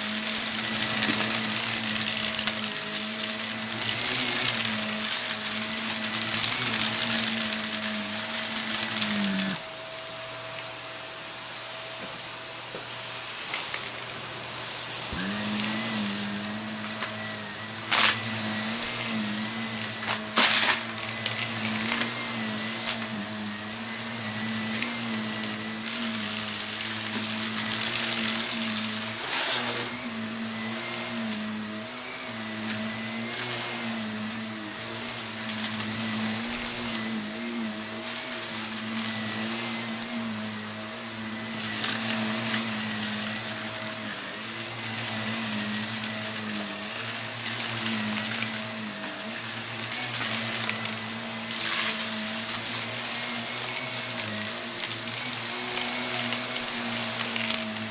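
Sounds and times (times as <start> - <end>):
debris crackling in vacuum: 0.0 - 9.7, 13.1 - 57.9
vacuum cleaner motor running: 0.0 - 57.9.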